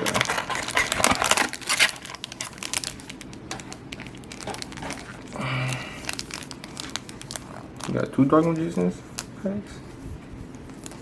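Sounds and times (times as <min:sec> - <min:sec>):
plastic packaging crinkling: 0:00.0 - 0:09.4, 0:10.4 - 0:11.0.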